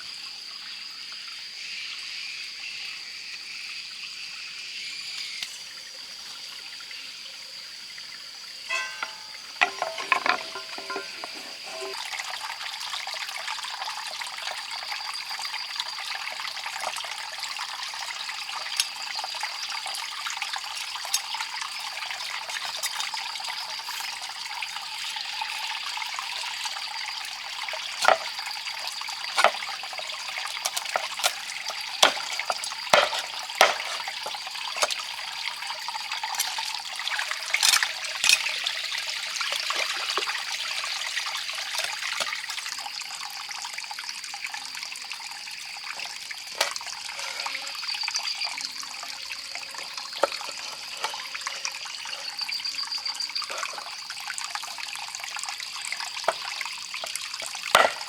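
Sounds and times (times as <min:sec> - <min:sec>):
water trickling: 0:02.9 - 0:58.0.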